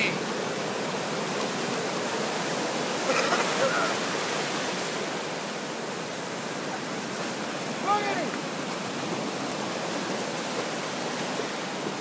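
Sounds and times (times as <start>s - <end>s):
shallow surf foaming: 0.0s - 12.0s.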